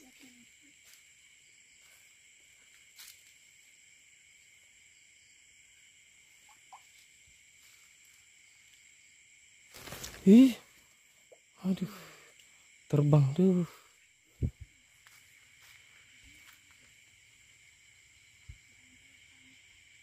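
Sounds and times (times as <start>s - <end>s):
insects trilling at night: 0.0s - 20.0s.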